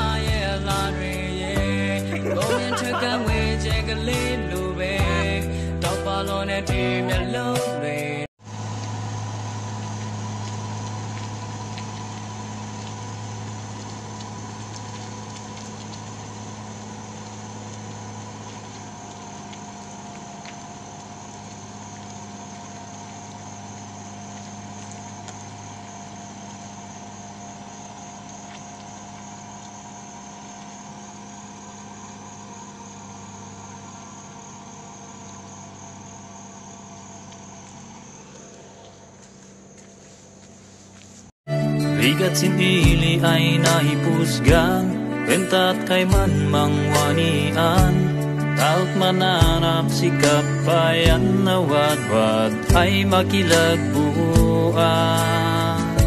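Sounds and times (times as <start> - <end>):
truck engine driving away: 0.0 - 56.0.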